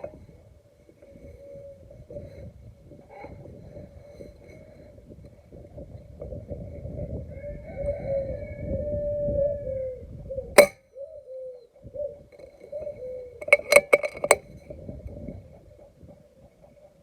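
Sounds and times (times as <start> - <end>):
wind rumble on microphone: 0.0 - 10.8, 11.8 - 17.0.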